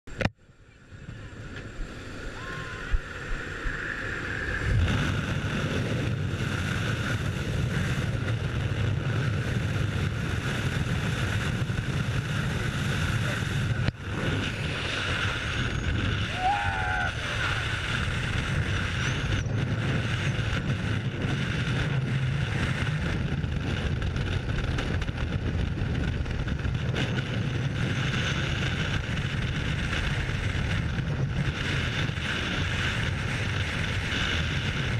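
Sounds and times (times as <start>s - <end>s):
freefall wind roar: 0.1s - 34.9s.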